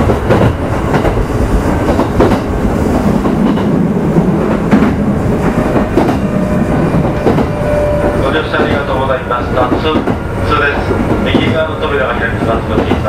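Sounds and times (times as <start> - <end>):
train wheels rumbling: 0.0 - 13.0
wheels clacking over rail joints: 0.0 - 13.0.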